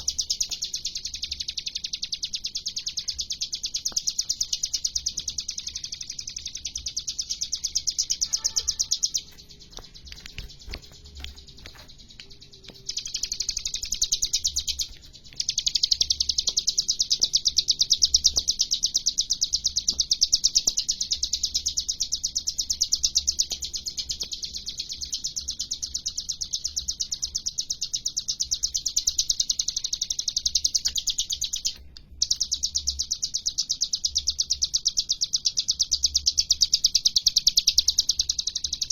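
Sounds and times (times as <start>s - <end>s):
bird singing fast trills: 0.0s - 38.9s.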